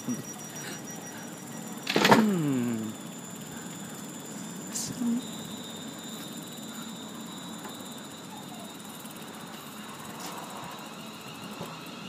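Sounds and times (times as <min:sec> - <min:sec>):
electric train humming with whine: 0:00.0 - 0:12.0.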